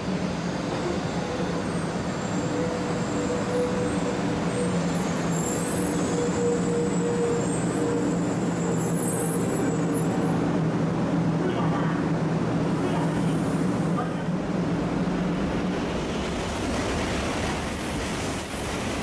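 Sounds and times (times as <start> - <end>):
train running slowly: 0.0 - 19.0.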